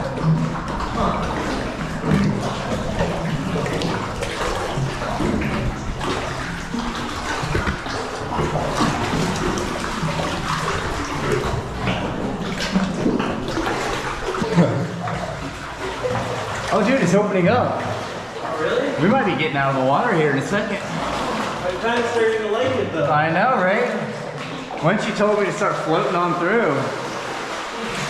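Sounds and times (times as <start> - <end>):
water splashing from swimming: 0.0 - 28.0.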